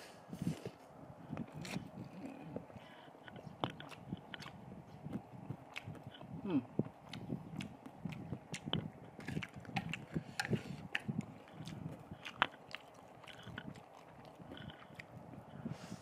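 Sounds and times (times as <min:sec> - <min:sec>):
person chewing noodles: 0:01.2 - 0:15.7.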